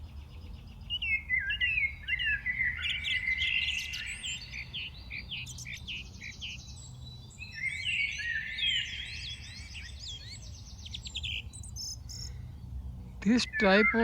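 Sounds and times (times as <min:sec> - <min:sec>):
birds chirping and trilling: 0:00.0 - 0:14.0.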